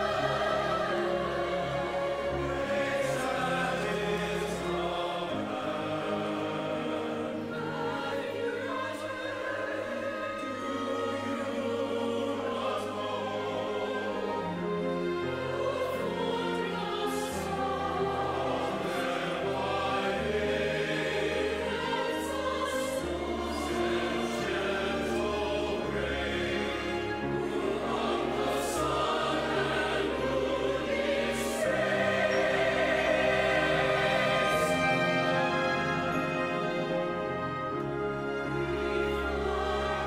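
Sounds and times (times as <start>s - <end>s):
choir singing with chamber orchestra: 0.0s - 40.0s.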